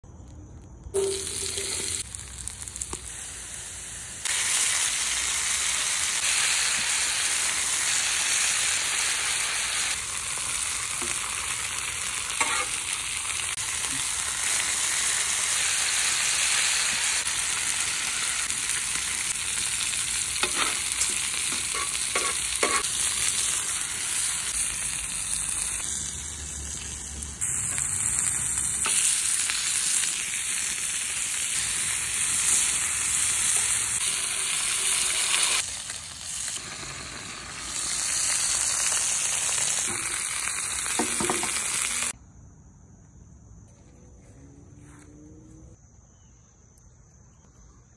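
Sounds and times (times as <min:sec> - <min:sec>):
food sizzling on a griddle: 0:01.0 - 0:42.2.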